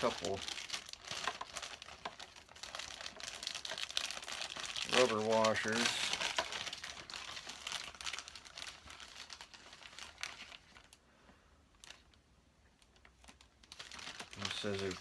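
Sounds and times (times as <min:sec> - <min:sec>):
plastic bag crinkling and tearing: 0:00.0 - 0:11.0, 0:11.8 - 0:12.2, 0:12.8 - 0:15.0.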